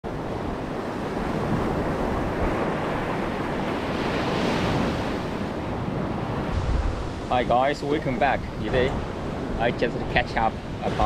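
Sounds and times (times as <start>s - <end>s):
ocean surf breaking: 0.1s - 11.0s
wind rumble on microphone: 0.1s - 11.0s.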